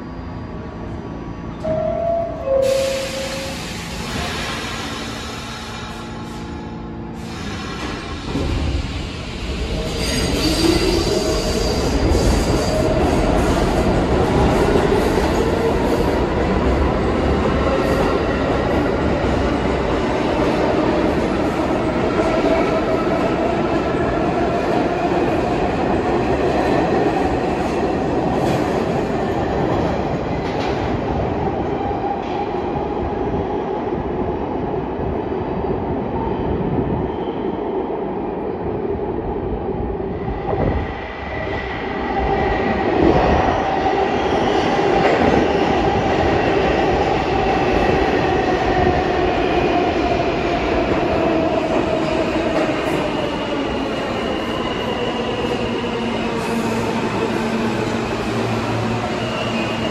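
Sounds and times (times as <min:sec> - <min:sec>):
subway train rumbling on rails: 0:00.0 - 0:59.9.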